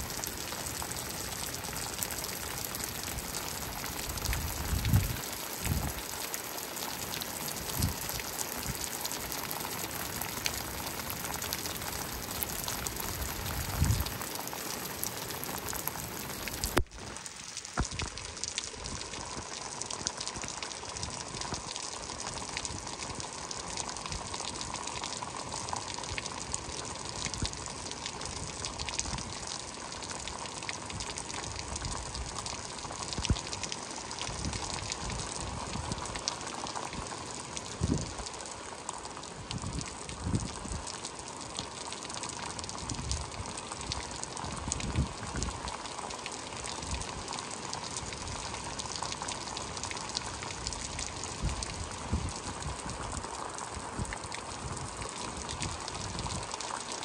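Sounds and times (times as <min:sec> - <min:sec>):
gushing water: 0:00.0 - 0:57.0
heavy rain: 0:00.0 - 0:57.0.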